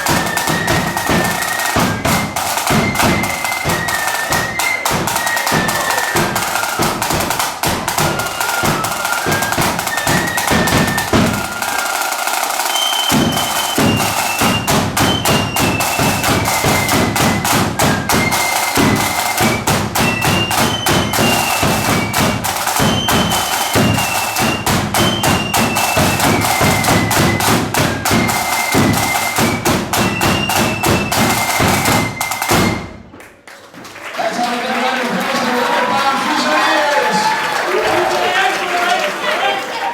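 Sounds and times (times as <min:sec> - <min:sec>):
fast snare drumming: 0:00.0 - 0:33.0
high flute melody: 0:00.0 - 0:33.0.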